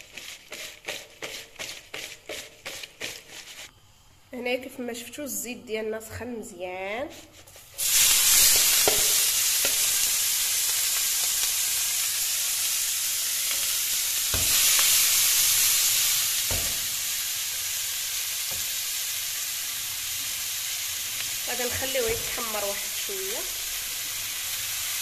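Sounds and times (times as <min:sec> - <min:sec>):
shrimp sizzling in hot oil: 0:00.0 - 0:03.7, 0:07.6 - 0:25.0.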